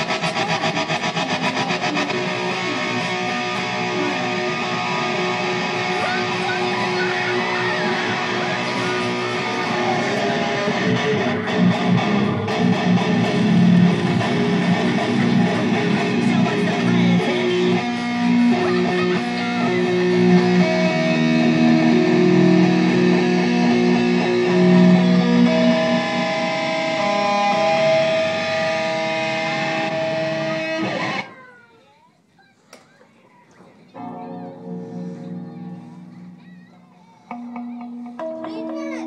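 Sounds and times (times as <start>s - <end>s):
electric guitar through amplifier: 0.0s - 31.4s, 34.0s - 39.0s.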